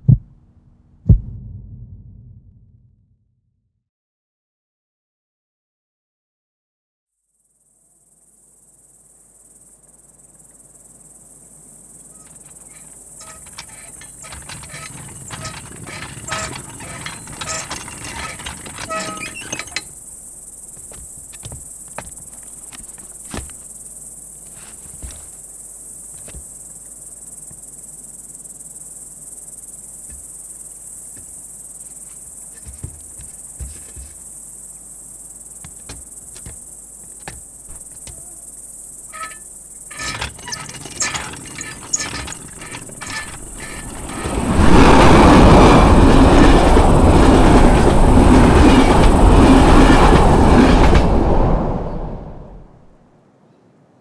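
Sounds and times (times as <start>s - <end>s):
crickets chirping: 7.3s - 52.4s.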